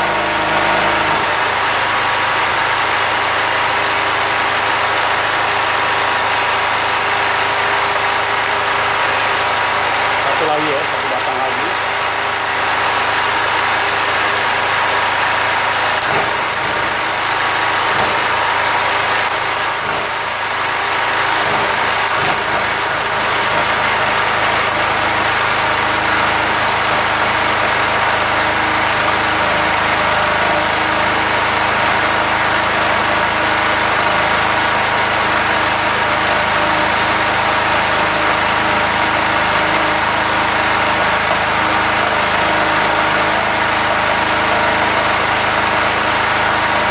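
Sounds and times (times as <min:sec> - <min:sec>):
generator engine running: 0:00.0 - 0:46.9
welding arc crackling: 0:00.0 - 0:46.9.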